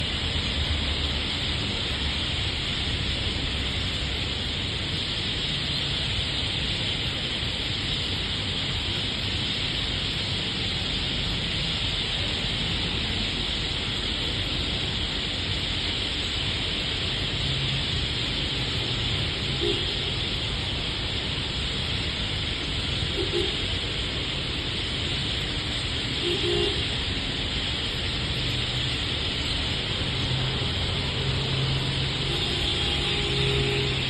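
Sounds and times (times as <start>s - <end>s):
low city rumble: 0.0s - 34.0s.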